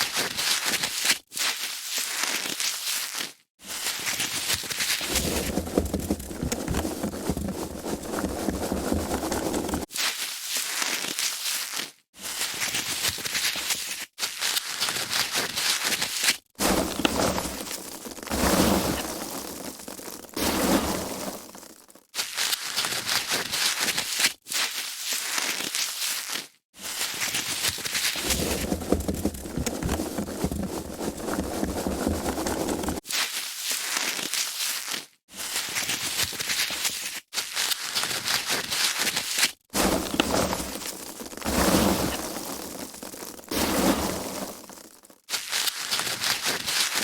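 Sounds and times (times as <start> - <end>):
foam packaging crackling and rustling: 0.0 - 47.0.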